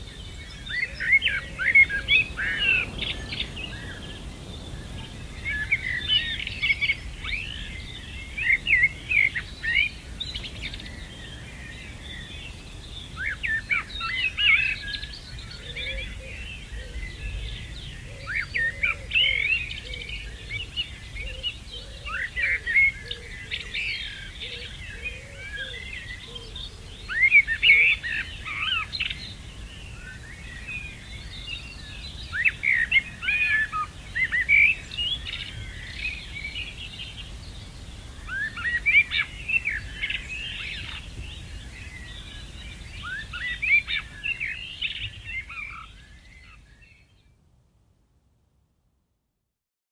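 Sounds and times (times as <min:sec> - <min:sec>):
songbirds singing: 0:00.0 - 0:47.6.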